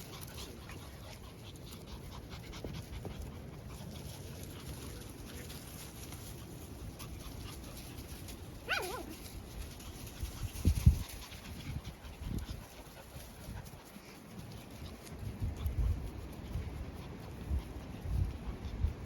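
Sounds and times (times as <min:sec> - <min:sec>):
puppies panting: 0:00.0 - 0:19.0.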